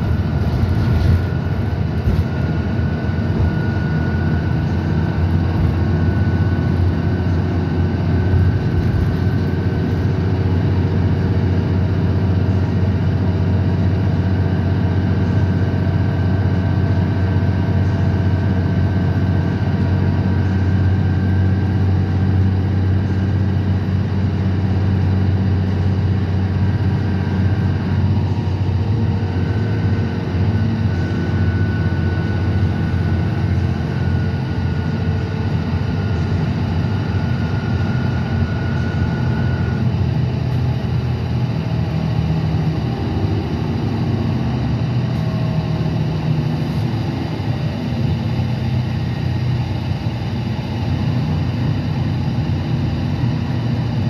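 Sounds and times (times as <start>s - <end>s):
bus engine droning: 0.0s - 54.0s
road noise: 0.0s - 54.0s.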